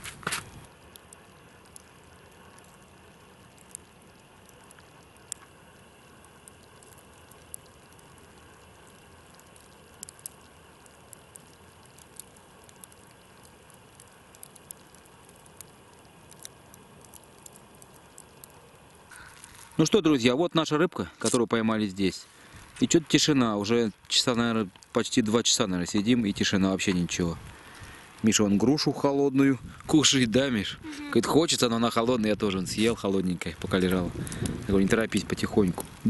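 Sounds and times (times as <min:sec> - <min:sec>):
faint outdoor hush: 0:00.0 - 0:35.5.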